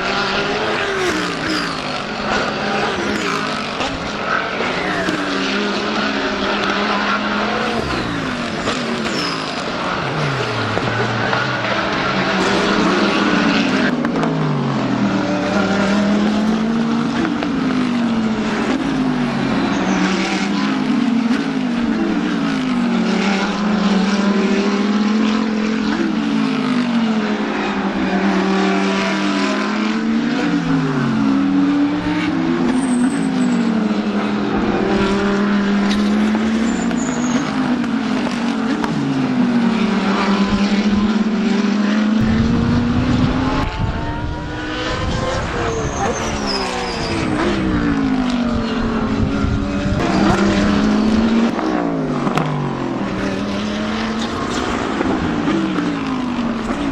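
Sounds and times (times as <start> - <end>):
race car engines revving past: 0.0 - 56.9.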